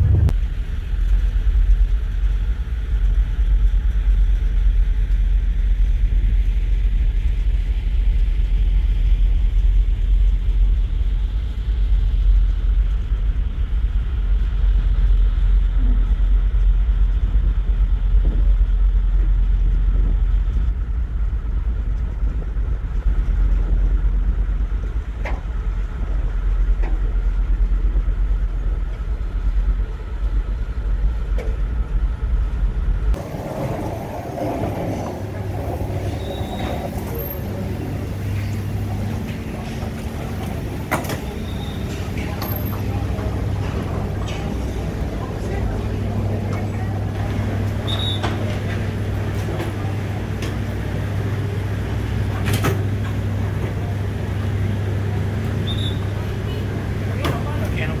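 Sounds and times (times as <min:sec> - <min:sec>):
ship engines droning: 0:00.0 - 0:58.0.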